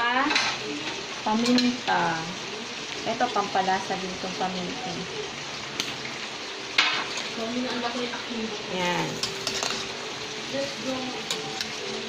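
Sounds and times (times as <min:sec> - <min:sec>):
sizzling hiss from pot: 0:00.0 - 0:12.0.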